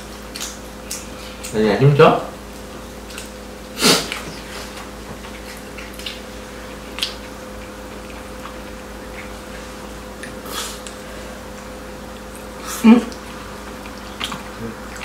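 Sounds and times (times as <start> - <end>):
wet mouth eating sound: 0.0 - 1.6, 2.9 - 15.0
faint steady hum: 0.0 - 15.0.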